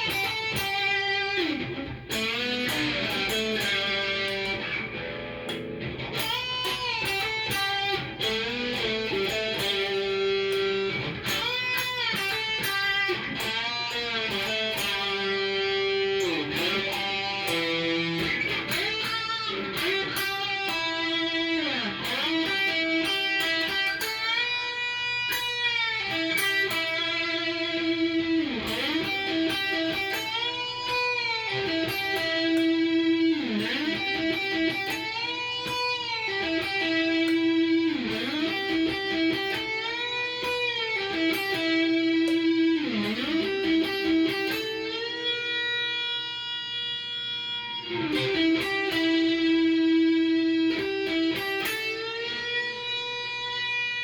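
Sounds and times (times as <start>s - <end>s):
electric guitar lead: 0.0s - 54.0s.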